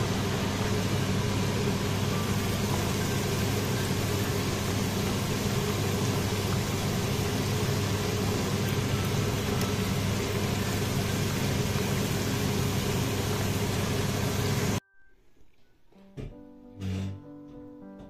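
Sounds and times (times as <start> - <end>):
hot oil sizzling: 0.0 - 14.8.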